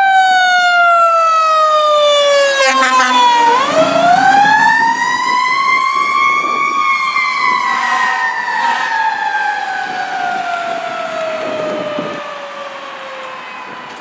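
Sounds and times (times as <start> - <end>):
fire engine siren wailing: 0.0 - 14.0.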